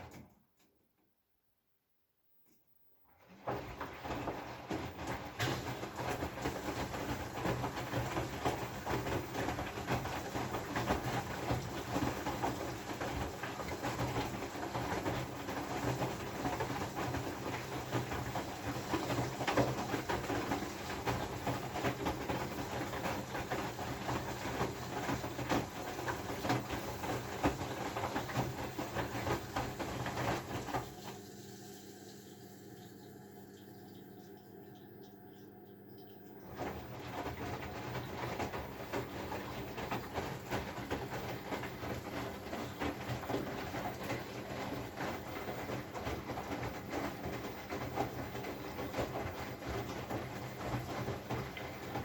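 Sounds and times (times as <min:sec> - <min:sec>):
washing machine running: 0:00.0 - 0:00.6, 0:03.0 - 0:52.0.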